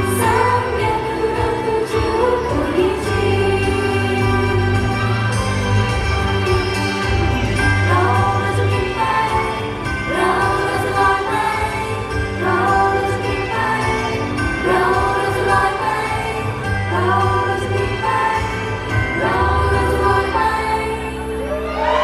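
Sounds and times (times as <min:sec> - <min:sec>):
women singing in unison: 0:00.0 - 0:05.2, 0:07.8 - 0:22.0
pop backing track with bass: 0:00.0 - 0:22.0.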